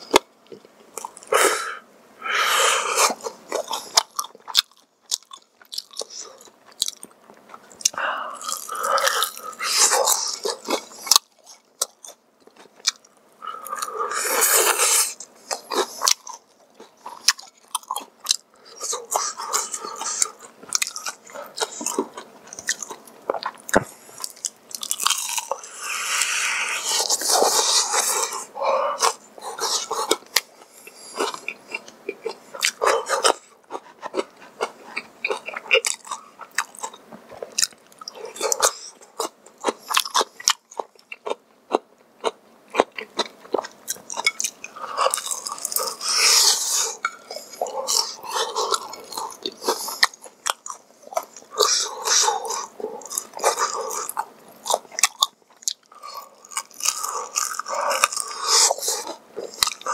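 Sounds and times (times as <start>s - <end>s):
person chewing crunchy food: 0.0s - 1.6s, 2.3s - 59.9s.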